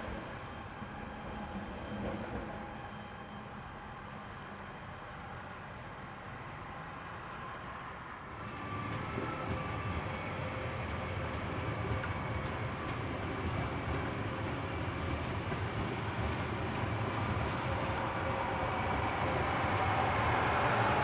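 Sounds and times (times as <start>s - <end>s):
train running on tracks: 0.0s - 21.0s.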